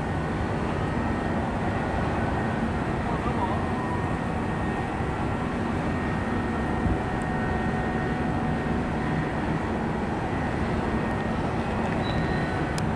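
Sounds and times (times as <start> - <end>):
freight train rumble: 0.0 - 12.9.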